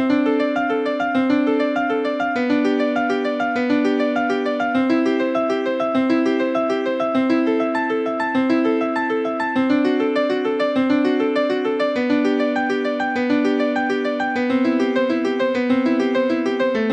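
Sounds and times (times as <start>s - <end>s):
polyphonic ringtone melody: 0.0s - 16.9s.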